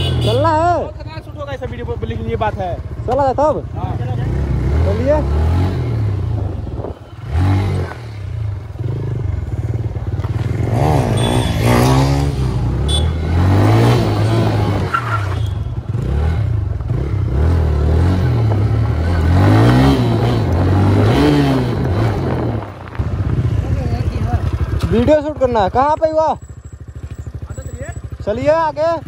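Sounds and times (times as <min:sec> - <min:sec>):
motorcycle engine revving: 0:00.0 - 0:29.0
wind and road noise: 0:00.0 - 0:29.0.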